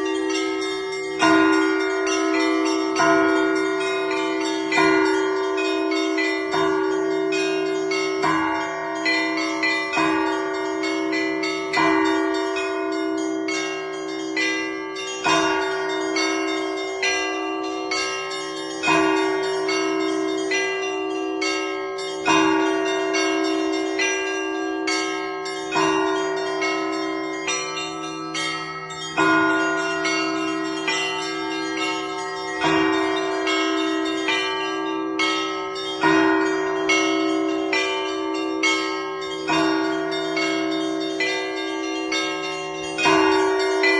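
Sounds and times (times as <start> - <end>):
heavy church bell strikes: 0.0 - 43.9
small bells ringing: 0.0 - 43.9.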